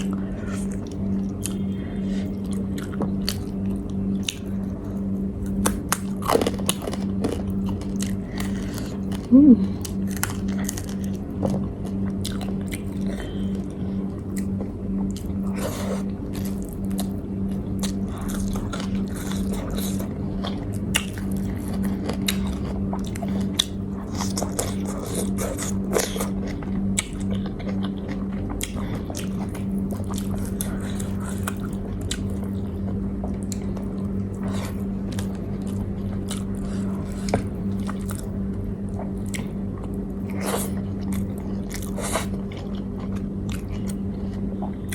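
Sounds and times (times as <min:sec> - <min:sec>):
person chewing and crunching food: 0:00.0 - 0:44.9
steady low hum: 0:00.0 - 0:44.9.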